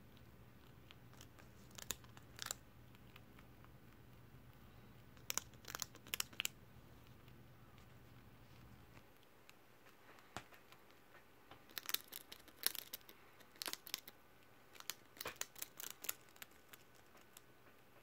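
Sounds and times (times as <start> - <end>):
rat crunching a potato chip: 0.1 - 8.0, 8.9 - 17.5.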